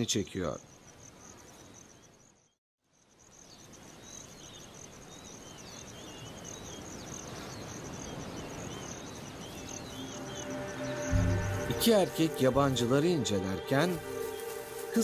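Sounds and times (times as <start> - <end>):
pulsing insect trill: 0.0 - 15.0
small birds chirping: 0.0 - 15.0.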